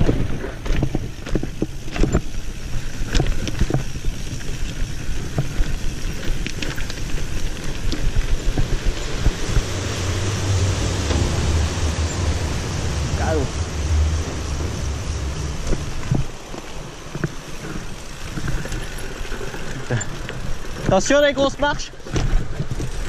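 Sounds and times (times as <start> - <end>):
chain and frame rattling: 0.0 - 16.3, 17.2 - 23.0
wind on microphone: 0.0 - 20.6
bike tyre noise on dirt: 0.0 - 23.0.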